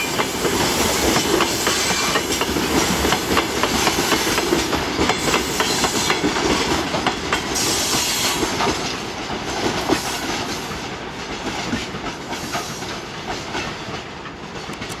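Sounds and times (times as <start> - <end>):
train wheels clattering on track: 0.0 - 15.0.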